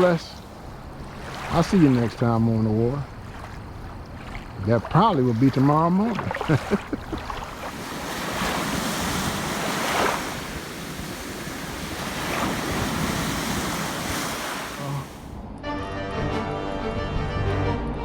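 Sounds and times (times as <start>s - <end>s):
wind blowing across microphone: 0.0s - 15.6s.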